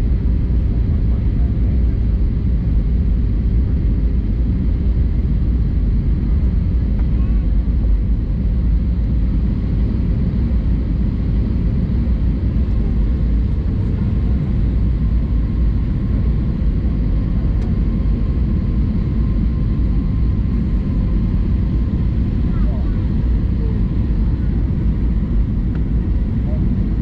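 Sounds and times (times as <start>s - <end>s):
aircraft cabin engine rumble: 0.0s - 27.0s.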